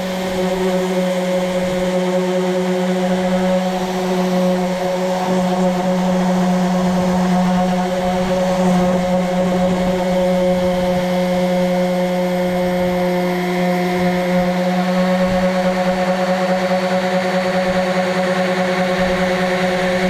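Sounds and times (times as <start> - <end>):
electric sander on wood: 0.0 - 20.0.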